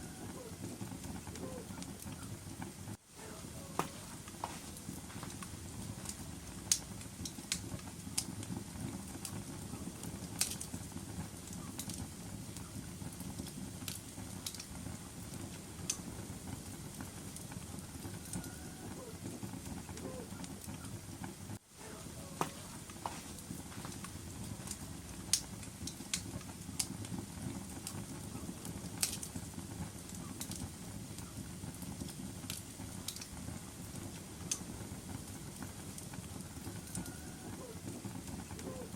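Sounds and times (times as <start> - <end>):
fire rumbling and crackling: 0.0 - 38.9.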